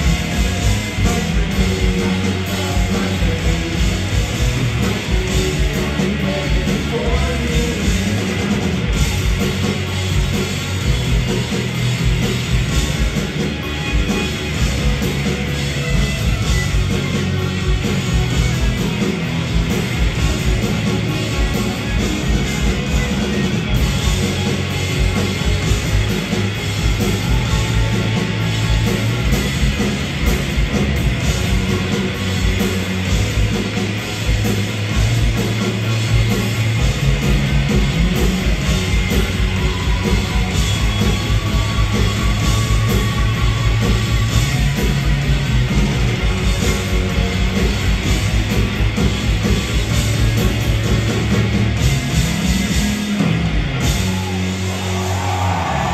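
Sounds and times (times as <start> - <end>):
bass guitar: 0.0 - 55.9
distorted electric guitars: 0.0 - 55.9
drum kit: 0.0 - 55.9.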